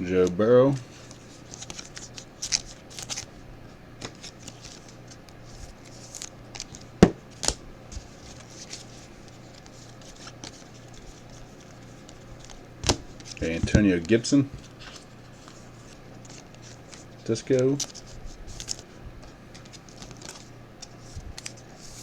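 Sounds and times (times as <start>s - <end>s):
cards rustling and sliding: 0.2s - 3.3s, 4.0s - 22.0s.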